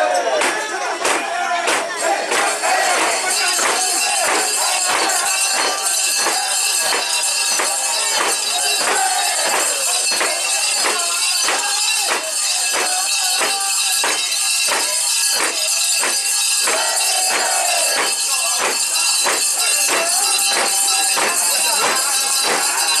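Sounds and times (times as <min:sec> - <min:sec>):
people chanting: 0:00.0 - 0:23.0.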